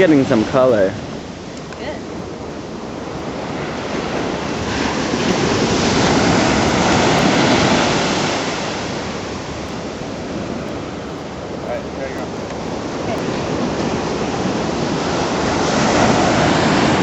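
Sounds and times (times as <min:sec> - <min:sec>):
ocean wave breaking: 0:00.0 - 0:17.0.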